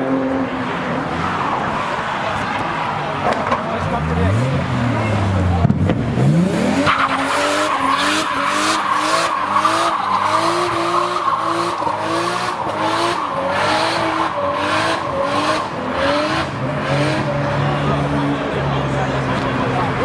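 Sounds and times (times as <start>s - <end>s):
car engine revving high: 3.8s - 20.0s.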